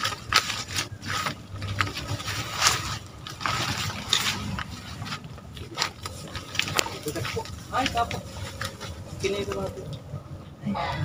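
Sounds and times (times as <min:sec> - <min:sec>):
footsteps in sandals through grass: 0:00.0 - 0:09.8
leaves rustling: 0:00.0 - 0:10.3.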